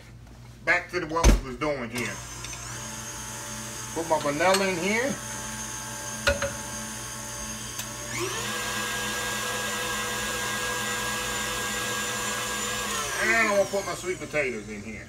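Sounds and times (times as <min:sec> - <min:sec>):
stand mixer motor whining: 0:02.0 - 0:15.0.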